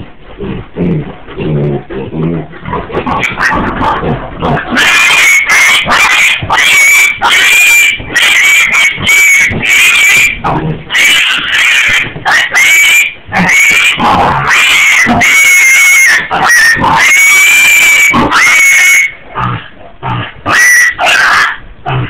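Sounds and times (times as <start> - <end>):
pig squealing: 0.4 - 22.0.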